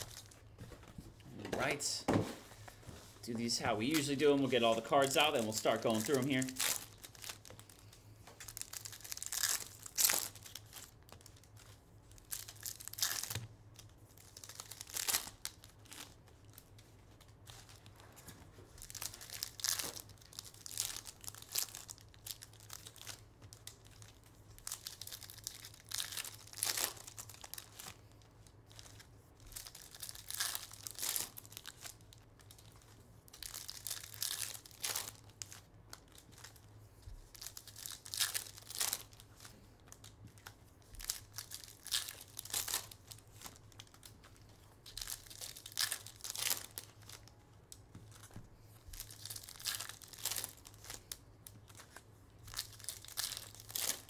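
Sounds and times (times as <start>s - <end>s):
wrappers tearing and crinkling: 0.0s - 0.5s, 3.2s - 54.0s.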